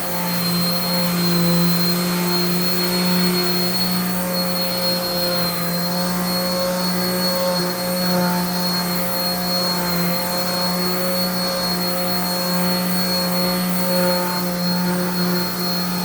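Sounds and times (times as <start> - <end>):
electric sander running: 0.0 - 16.0.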